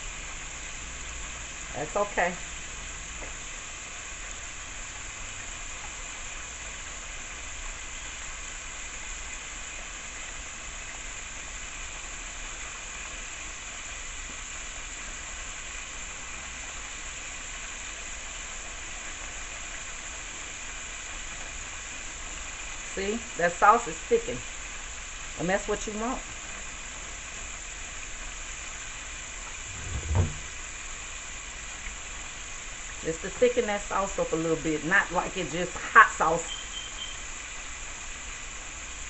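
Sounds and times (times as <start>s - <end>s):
sauce sizzling in a pan: 0.0s - 29.8s, 30.4s - 39.0s.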